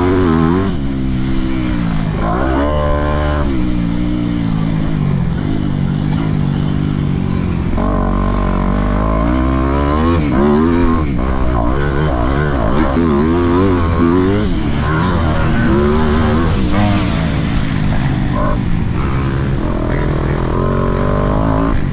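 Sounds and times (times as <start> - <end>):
motocross bike engine revving: 0.0 - 21.9.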